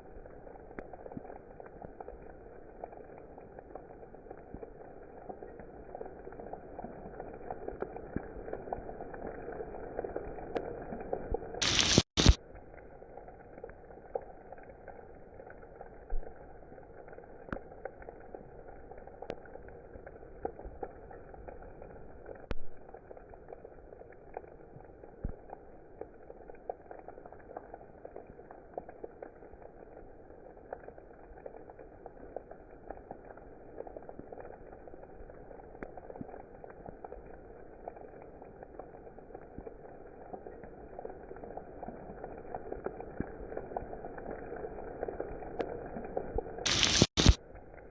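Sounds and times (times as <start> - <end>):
raindrops tapping and dripping: 0.0 - 47.9
steady rain: 0.0 - 47.9.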